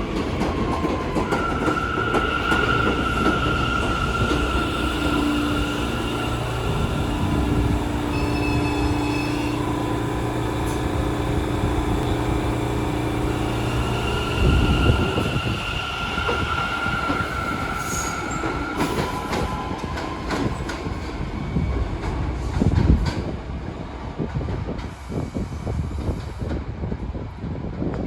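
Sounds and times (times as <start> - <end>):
train whine: 0.0 - 26.6
subway train rumbling on track: 0.0 - 28.0.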